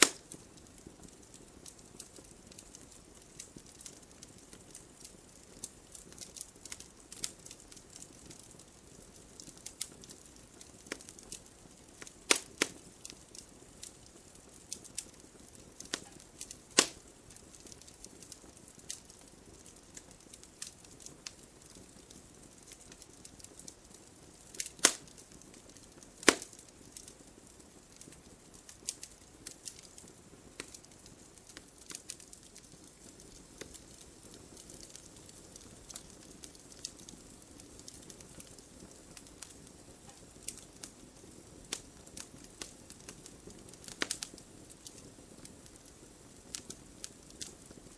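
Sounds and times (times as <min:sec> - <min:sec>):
loud fire pops: 0:00.0 - 0:47.9
wood fire crackling: 0:00.0 - 0:47.9.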